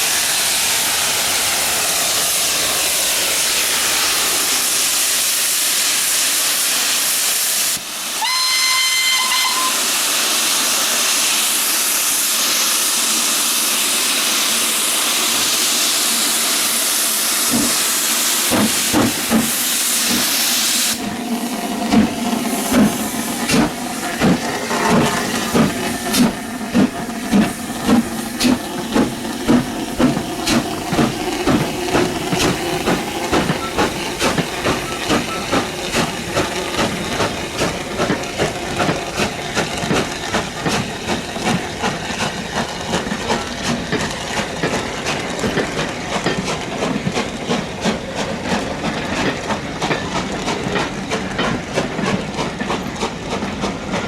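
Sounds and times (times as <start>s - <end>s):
steam hissing: 0.0s - 54.0s
steam locomotive exhaust chuffs: 0.0s - 54.0s.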